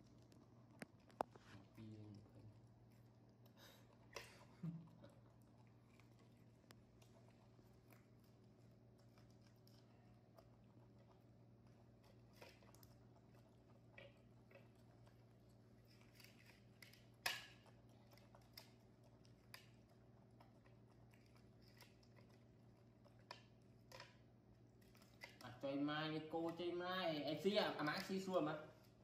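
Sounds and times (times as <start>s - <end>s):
faint steady hum: 0.0s - 29.0s
monkeys gnawing corn: 0.0s - 29.0s.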